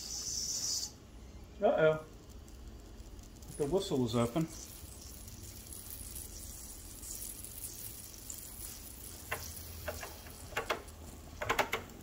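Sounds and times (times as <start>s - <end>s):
faint sizzle from boiler: 0.0s - 12.0s.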